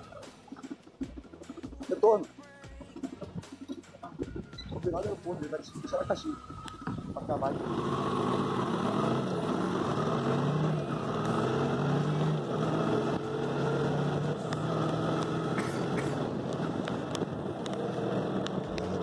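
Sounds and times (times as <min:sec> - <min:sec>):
vehicle engine running: 0:02.7 - 0:19.0
road and wind noise: 0:03.0 - 0:19.0.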